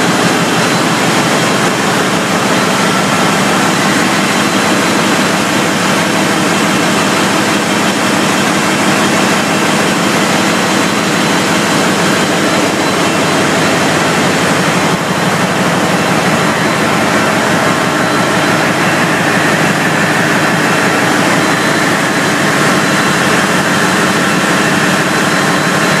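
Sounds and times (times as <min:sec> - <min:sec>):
diesel engine roaring: 0:00.0 - 0:26.0
turbocharger whine: 0:00.0 - 0:26.0.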